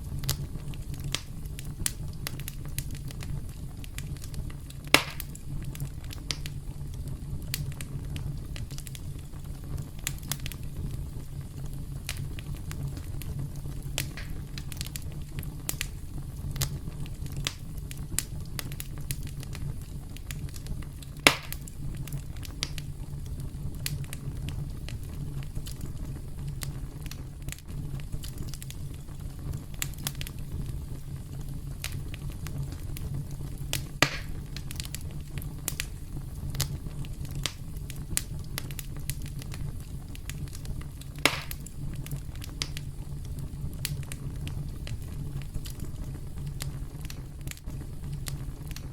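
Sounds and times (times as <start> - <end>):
campfire crackling: 0.0 - 48.9
loud fire pops: 0.0 - 48.9.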